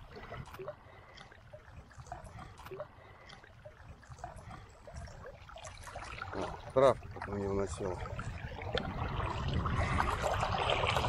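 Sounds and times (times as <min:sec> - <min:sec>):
low rumble: 0:00.0 - 0:11.0
river water lapping and splashing: 0:00.0 - 0:11.0.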